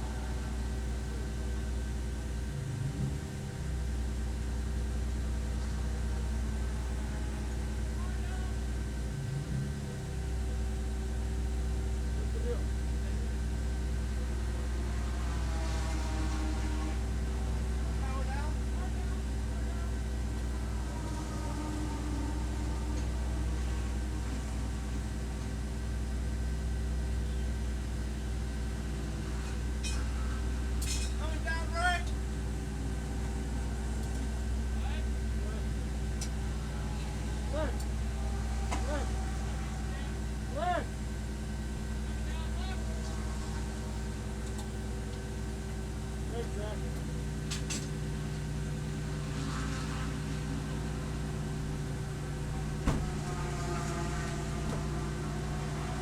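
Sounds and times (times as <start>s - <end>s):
race car engine droning: 0.0s - 56.0s.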